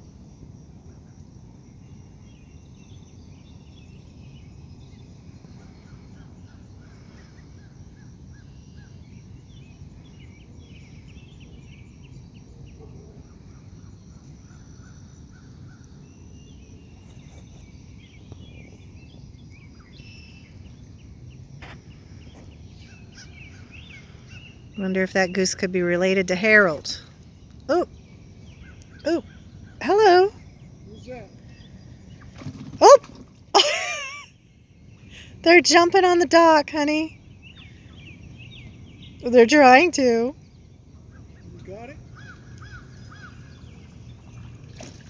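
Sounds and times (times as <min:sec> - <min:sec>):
insect trill: 0:00.0 - 0:43.6.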